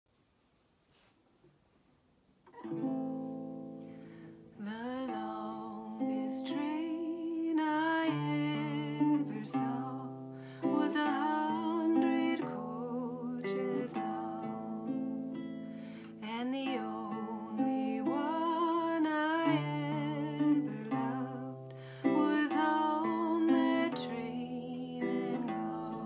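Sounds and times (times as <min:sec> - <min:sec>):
classical guitar chords: 0:02.5 - 0:26.0
woman singing folk ballad: 0:03.6 - 0:26.0.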